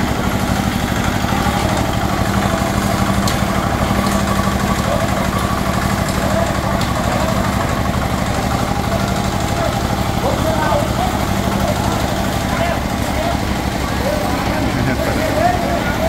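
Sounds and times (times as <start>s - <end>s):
concrete mixer engine running: 0.0s - 16.0s
workers' voices: 0.0s - 16.0s.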